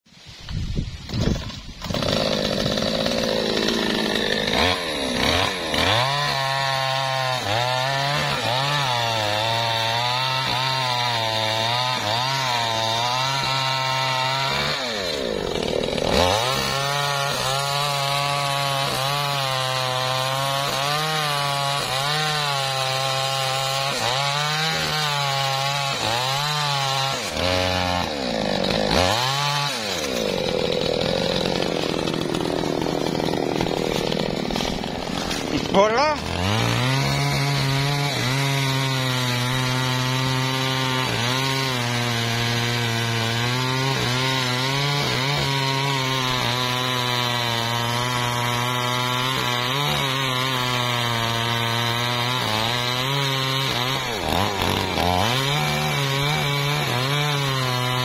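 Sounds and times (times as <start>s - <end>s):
chainsaw cutting wood: 1.0s - 58.0s.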